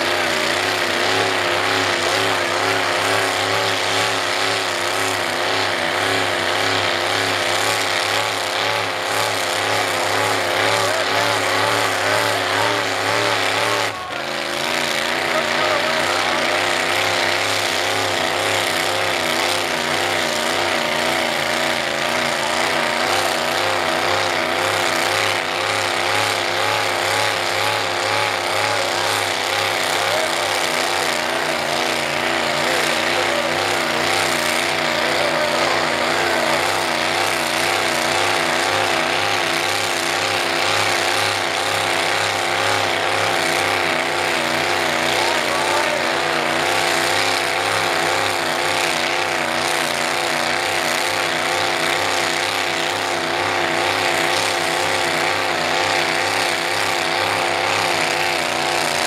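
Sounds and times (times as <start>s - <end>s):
tires spinning in mud: 0.0s - 59.0s
truck engine at high revs: 0.0s - 59.0s.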